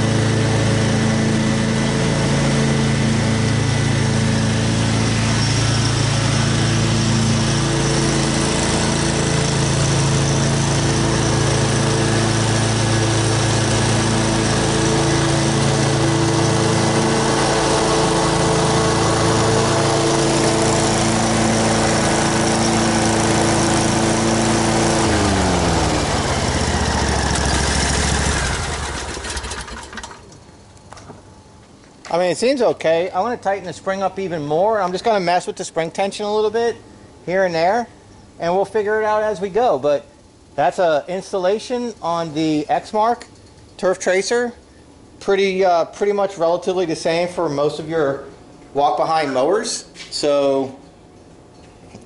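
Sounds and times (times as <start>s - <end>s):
lawn mower engine running: 0.0s - 52.0s.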